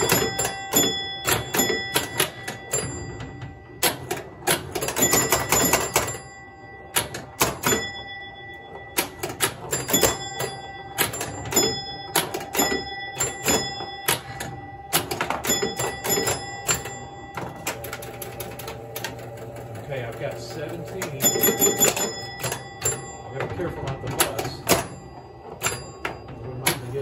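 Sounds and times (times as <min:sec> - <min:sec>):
pinball machine clacks and snaps: 0:00.0 - 0:06.2, 0:06.9 - 0:08.0, 0:08.8 - 0:27.0
pinball bell tones: 0:00.0 - 0:27.0.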